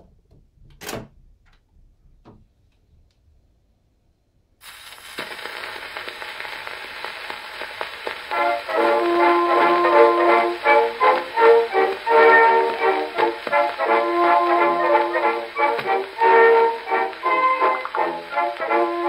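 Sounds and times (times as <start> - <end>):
record hiss with crackle: 0.0 - 19.0.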